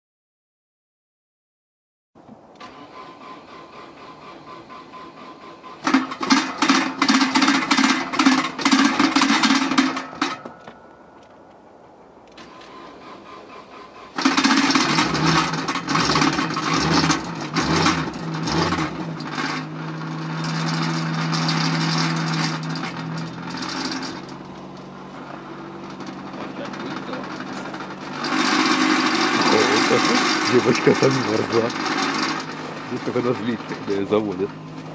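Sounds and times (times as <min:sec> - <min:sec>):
car starter cranking: 0:02.4 - 0:11.6, 0:12.2 - 0:34.9
cold engine idling: 0:02.6 - 0:34.9.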